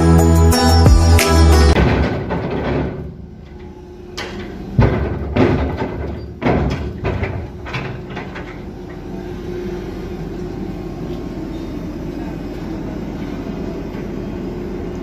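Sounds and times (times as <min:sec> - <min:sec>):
crane machinery drone: 0:00.0 - 0:15.0.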